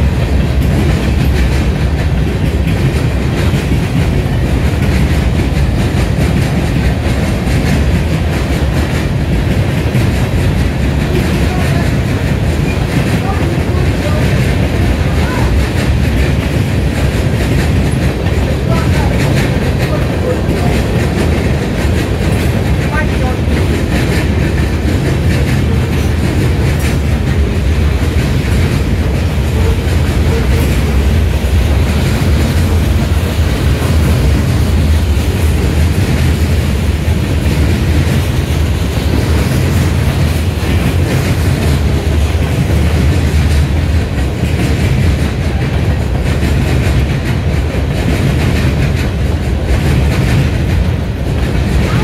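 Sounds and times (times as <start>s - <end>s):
train wheels rumbling on rails: 0.0s - 52.0s
wheels clacking over track: 0.0s - 52.0s.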